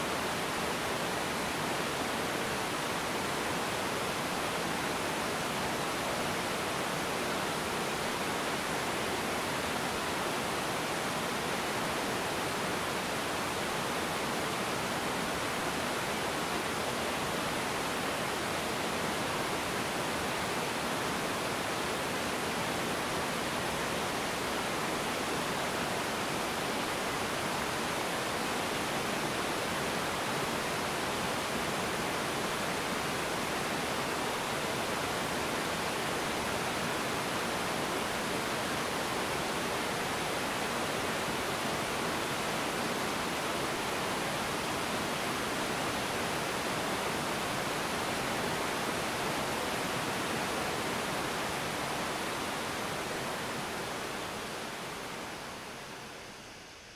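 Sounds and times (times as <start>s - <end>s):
waterfall rushing over rocks: 0.0s - 56.9s.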